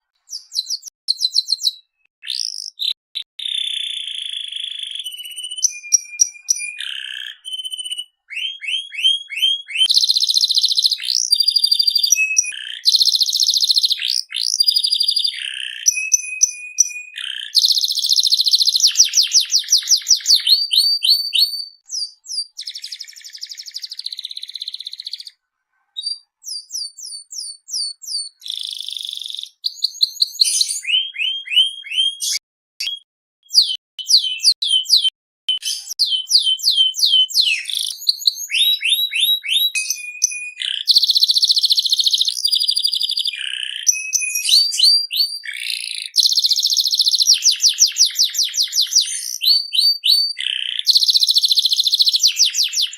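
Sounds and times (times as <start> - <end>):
canary singing: 0.0 - 25.4, 26.0 - 52.9.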